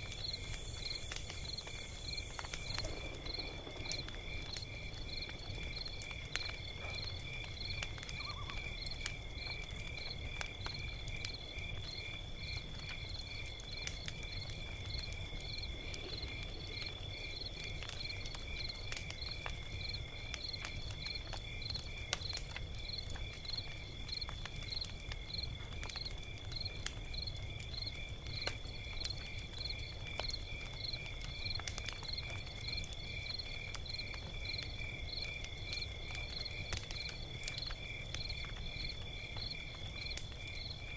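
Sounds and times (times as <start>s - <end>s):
crickets chirping: 0.0s - 40.9s
log fire crackling and popping: 0.0s - 40.9s.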